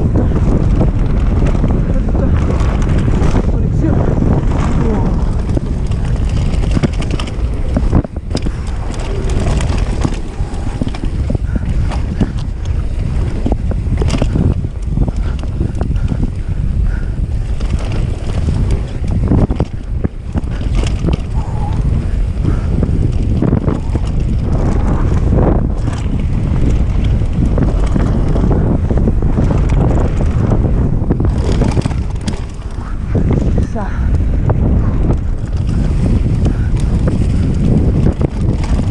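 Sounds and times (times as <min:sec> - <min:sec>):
bike rattling over bumps: 0:00.0 - 0:38.9
wind buffeting microphone: 0:00.0 - 0:38.9.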